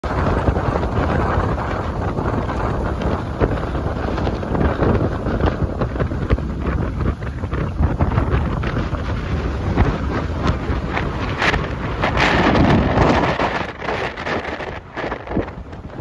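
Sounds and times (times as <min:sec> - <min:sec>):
gusty wind buffeting microphone: 0:00.0 - 0:16.0
rough sea: 0:00.0 - 0:16.0.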